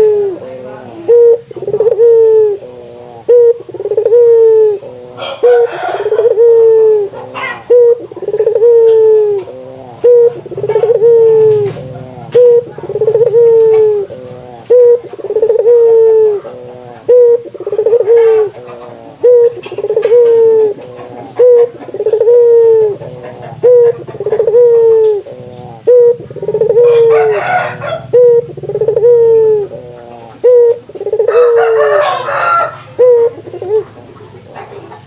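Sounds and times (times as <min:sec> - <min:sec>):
dove cooing: 0:00.0 - 0:35.0
rough noisy bird calls: 0:00.0 - 0:35.0.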